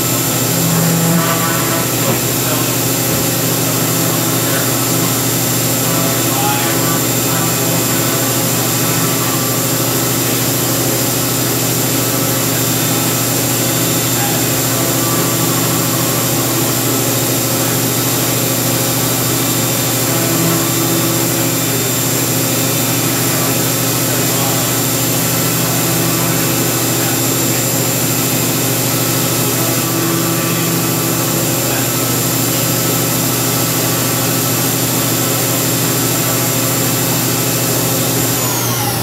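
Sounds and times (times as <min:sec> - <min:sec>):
milling machine running with whine: 0:00.0 - 0:39.0.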